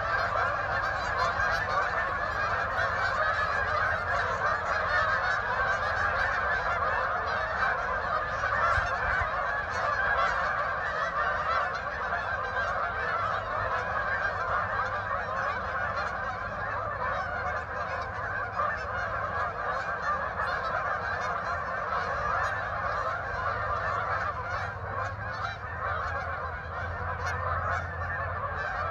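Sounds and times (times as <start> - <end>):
geese honking: 0.0 - 28.9.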